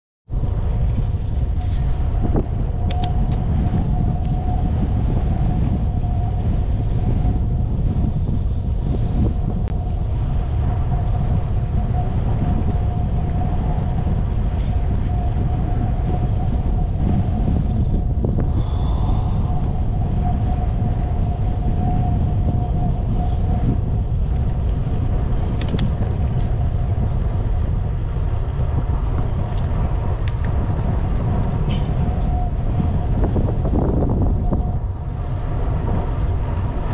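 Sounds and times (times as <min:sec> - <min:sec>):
faint steady whine: 0:00.3 - 0:36.9
wind buffeting microphone: 0:00.3 - 0:36.9.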